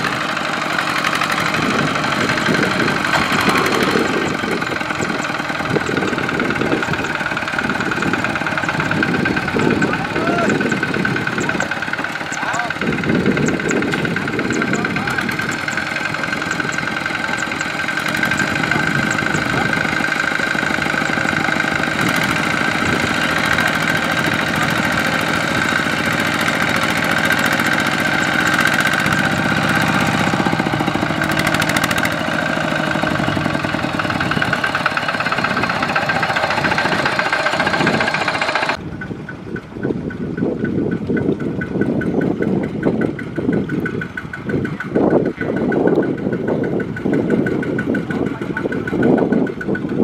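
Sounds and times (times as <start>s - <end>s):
diesel engine knocking: 0.0s - 50.0s.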